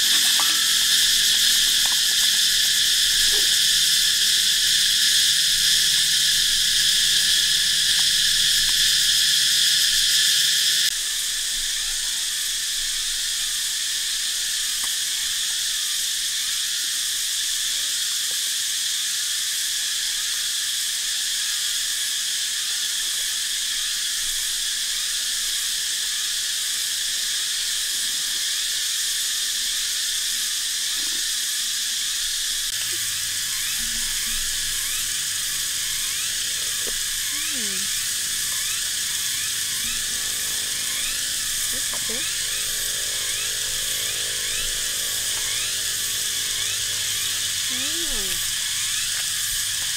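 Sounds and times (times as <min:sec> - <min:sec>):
forest insects chorus: 0:00.0 - 0:49.9.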